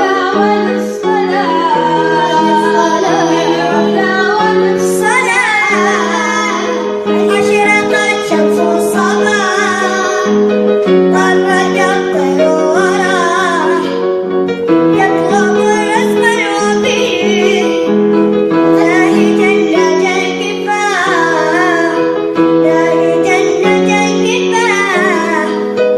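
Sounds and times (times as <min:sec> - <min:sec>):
person singing wavering melody: 0:00.0 - 0:14.1, 0:14.8 - 0:25.9
held accompaniment notes: 0:00.0 - 0:25.9.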